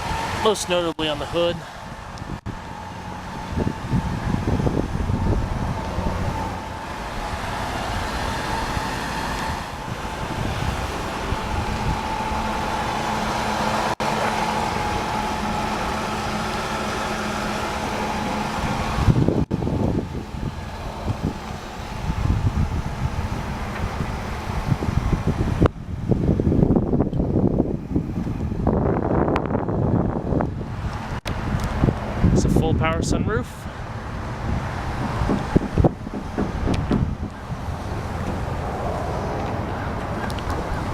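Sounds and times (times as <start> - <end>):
car engine idling: 0.0 - 28.0, 33.2 - 40.9
high whine: 0.0 - 40.9
wind buffeting microphone: 0.0 - 40.9.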